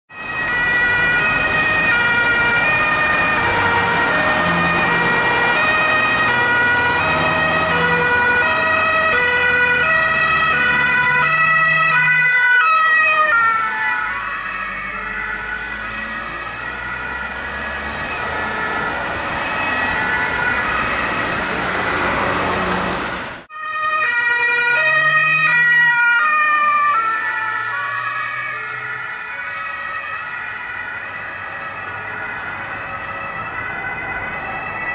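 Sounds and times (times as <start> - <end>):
two-tone emergency siren: 0.1 - 34.9.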